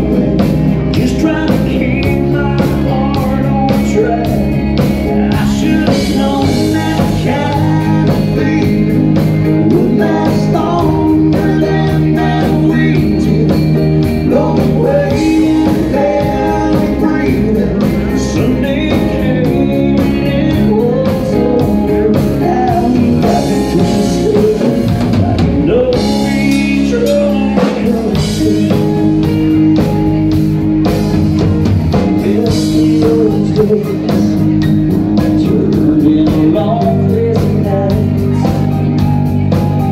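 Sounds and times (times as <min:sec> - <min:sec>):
man singing lead: 0:00.0 - 0:30.3, 0:31.9 - 0:39.9
bass guitar: 0:00.0 - 0:39.9
drum kit: 0:00.0 - 0:39.9
electric guitar: 0:00.0 - 0:39.9
stage piano: 0:00.0 - 0:39.9.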